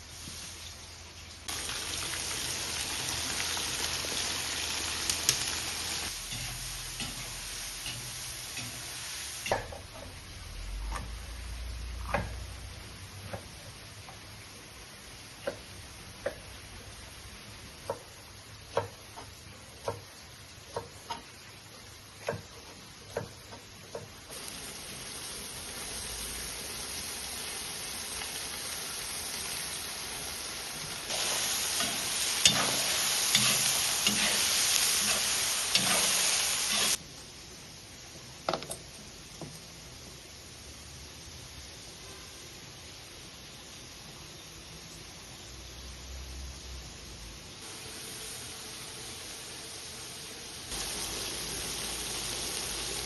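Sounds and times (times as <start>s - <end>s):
food sizzling in hot oil: 0.0s - 37.9s, 42.9s - 53.0s.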